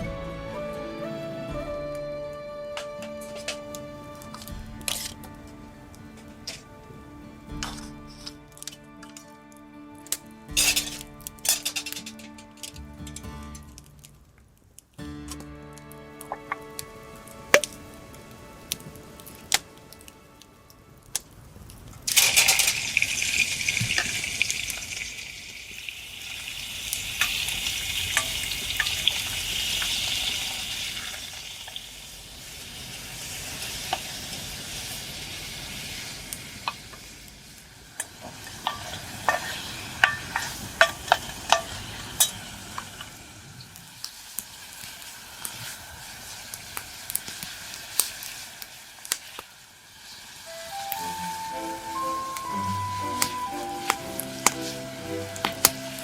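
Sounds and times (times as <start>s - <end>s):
food sizzling in iron pot: 2.8s - 14.3s, 22.1s - 56.0s.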